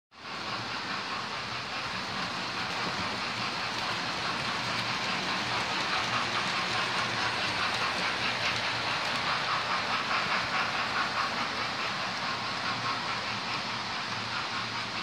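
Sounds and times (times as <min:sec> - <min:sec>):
wheels rattling over track: 0:00.2 - 0:15.0.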